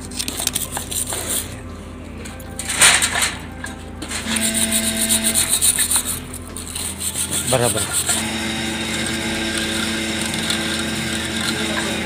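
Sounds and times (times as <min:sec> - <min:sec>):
wire brush scrubbing metal: 0:00.0 - 0:01.6, 0:02.6 - 0:12.0
steady hum: 0:00.0 - 0:12.0.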